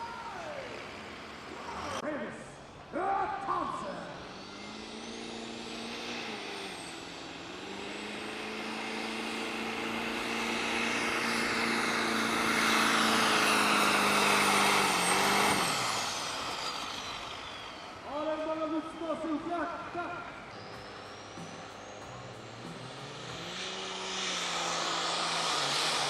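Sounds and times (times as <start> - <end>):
diesel truck engine at high revs: 0.0 - 26.0.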